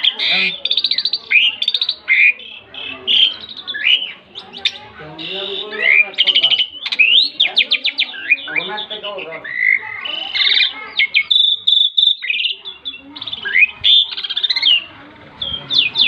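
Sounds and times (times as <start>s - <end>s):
starling singing: 0.0s - 16.0s.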